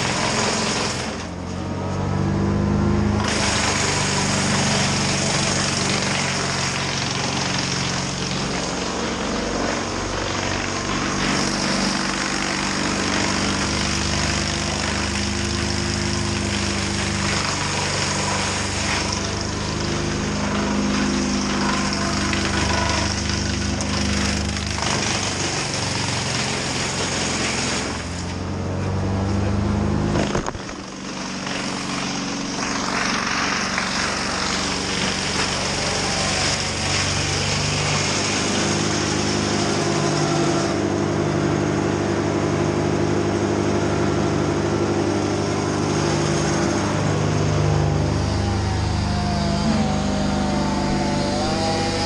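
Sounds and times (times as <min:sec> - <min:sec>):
heavy machine engine running: 0:00.0 - 0:52.0.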